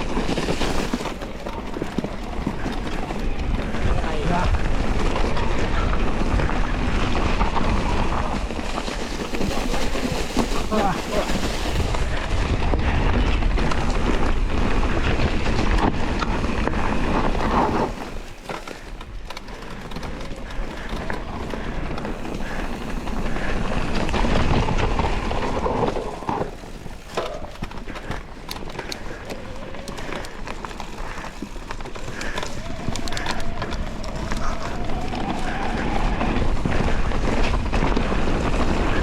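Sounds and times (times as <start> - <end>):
bike rattling and knocking: 0.0 - 39.0
bike tyres rolling on dirt: 0.0 - 39.0.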